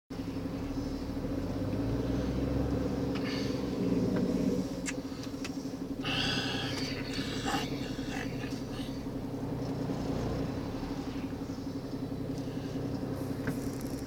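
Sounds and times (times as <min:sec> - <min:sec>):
vehicle engine idling: 0:00.1 - 0:14.0.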